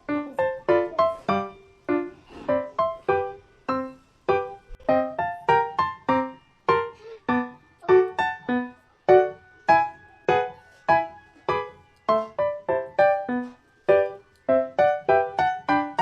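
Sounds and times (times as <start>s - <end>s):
soft piano melody: 0.0s - 16.0s.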